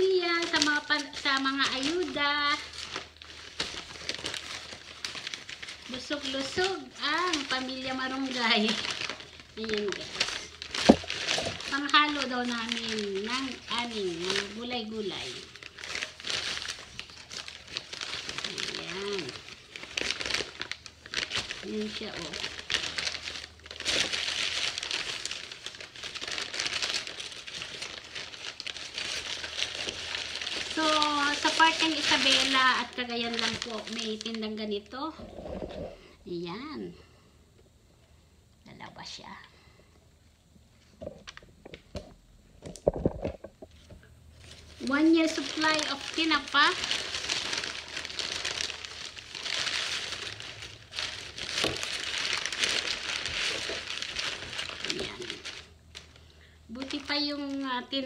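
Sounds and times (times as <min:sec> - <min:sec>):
newspaper and plastic crinkling: 0:00.0 - 0:36.0, 0:42.6 - 0:58.0.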